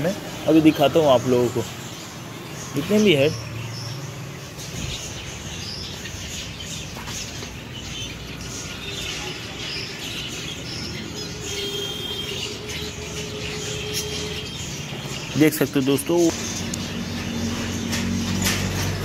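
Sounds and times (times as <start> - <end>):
finches chirping: 0.0 - 18.6.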